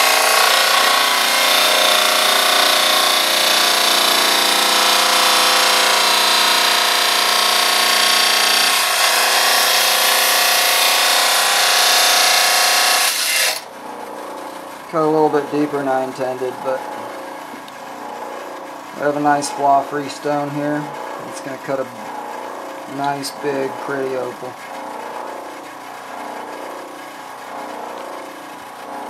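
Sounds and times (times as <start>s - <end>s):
saw blade whining: 0.0s - 29.0s.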